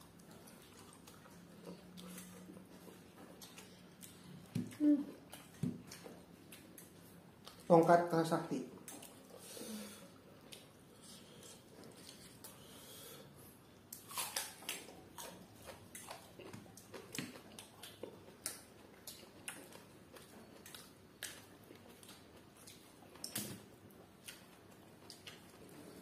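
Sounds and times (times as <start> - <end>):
wet chewing and lip smacking: 0.0 - 7.7, 8.8 - 9.4, 10.4 - 12.7, 13.7 - 26.0.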